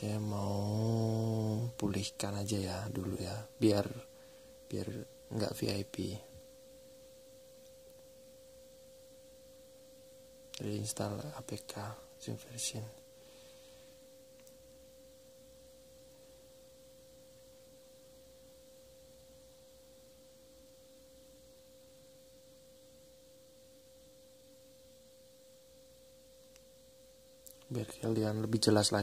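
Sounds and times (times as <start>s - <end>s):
faint steady high tone: 0.0s - 29.0s
light hiss: 0.0s - 29.0s.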